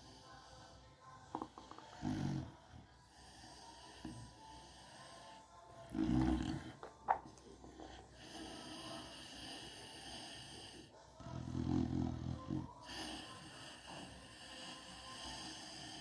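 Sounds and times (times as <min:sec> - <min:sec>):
dog snoring: 0:01.4 - 0:07.1, 0:07.7 - 0:16.0.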